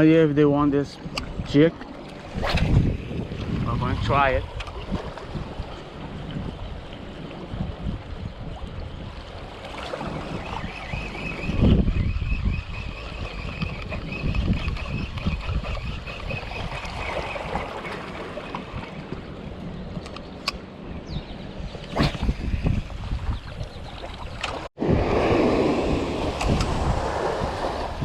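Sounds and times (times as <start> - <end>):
water sounds: 0.0 - 20.8, 21.4 - 28.0
wind buffeting microphone: 0.0 - 28.0.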